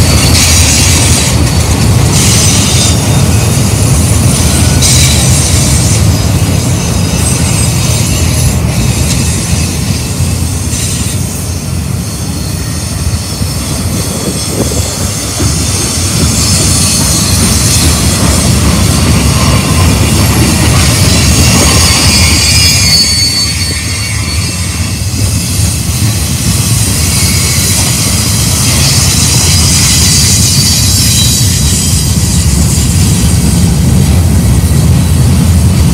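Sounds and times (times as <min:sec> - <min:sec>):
high-pitched wheel squeal: 0:00.0 - 0:33.3
steel wheels rumbling on rail: 0:00.0 - 0:35.9.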